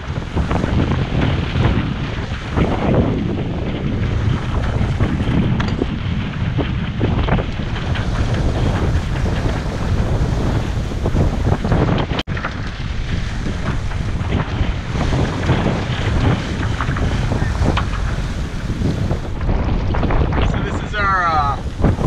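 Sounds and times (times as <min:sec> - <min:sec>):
waves rushing along a hull: 0:00.0 - 0:22.0
wind buffeting microphone: 0:00.0 - 0:22.0.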